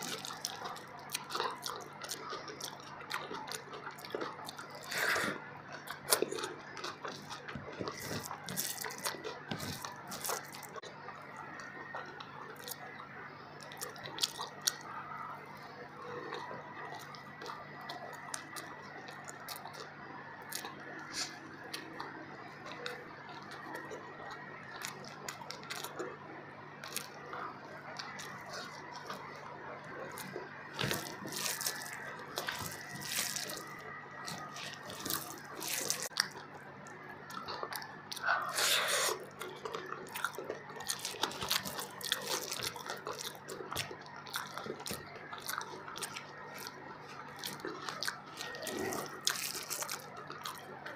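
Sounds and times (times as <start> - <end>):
chewing and mouth smacks: 0.0 - 50.9
faint steady hum: 0.0 - 50.9.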